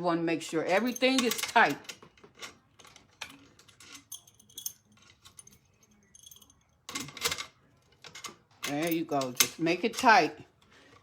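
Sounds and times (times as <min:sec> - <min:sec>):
metal parts clicking and clinking: 0:00.6 - 0:10.3.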